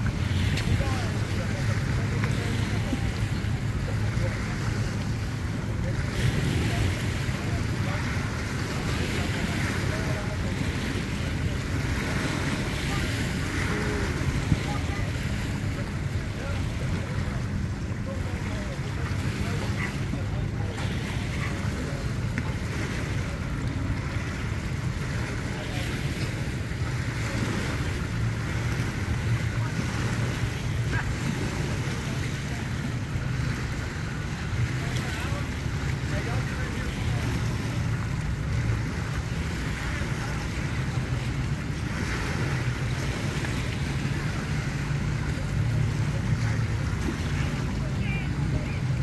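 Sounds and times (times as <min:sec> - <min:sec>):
boat engine idling: 0:00.0 - 0:49.0
water lapping at shore: 0:00.0 - 0:49.0.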